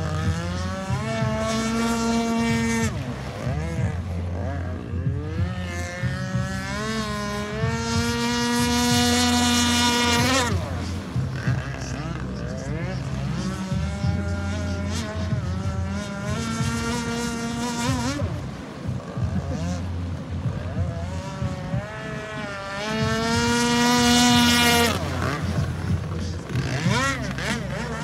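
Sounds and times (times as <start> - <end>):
two-stroke boat engine revving: 0.0 - 28.0.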